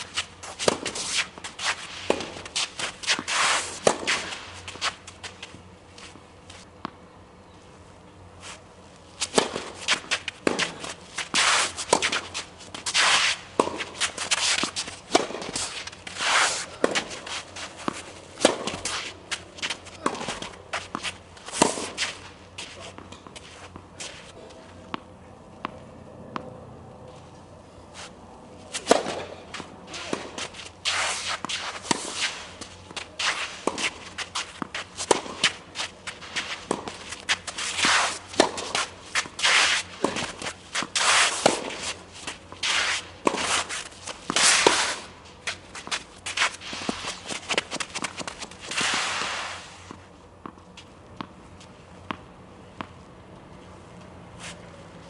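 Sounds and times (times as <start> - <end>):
tennis ball hitting rackets: 0.0 - 5.4, 9.2 - 26.5, 28.7 - 52.9
shoes scuffing on court: 0.0 - 6.7, 8.4 - 25.0, 27.9 - 52.2.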